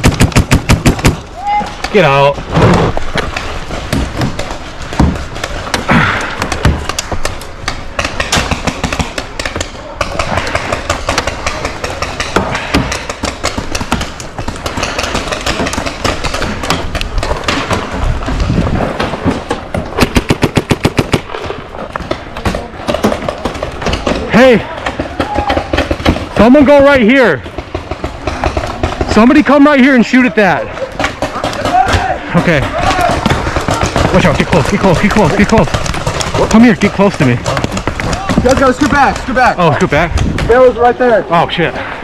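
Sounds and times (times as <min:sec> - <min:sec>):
paintball markers firing: 0:00.0 - 0:02.0, 0:02.7 - 0:18.0, 0:19.5 - 0:29.4, 0:30.8 - 0:40.7.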